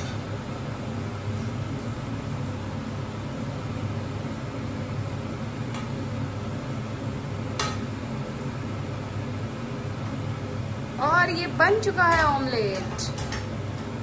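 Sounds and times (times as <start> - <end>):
omelette frying in pan: 0.0 - 14.0.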